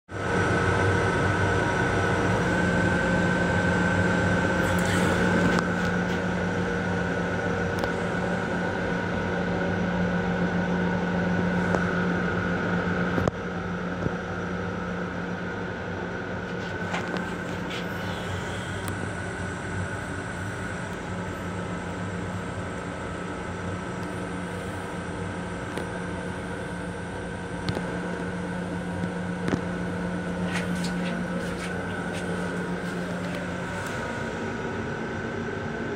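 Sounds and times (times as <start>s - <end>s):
electric railcar interior drone: 0.1s - 35.9s
held humming tones: 0.1s - 35.9s.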